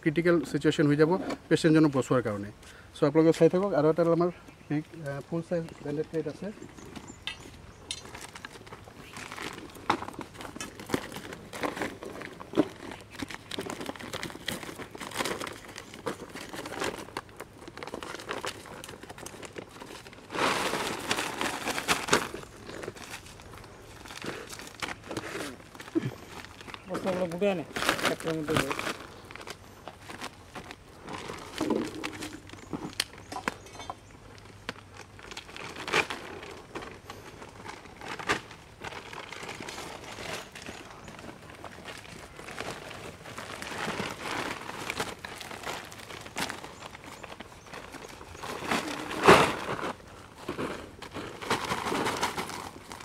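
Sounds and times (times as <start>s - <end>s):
plastic bags crinkling and rustling: 0.0s - 53.0s.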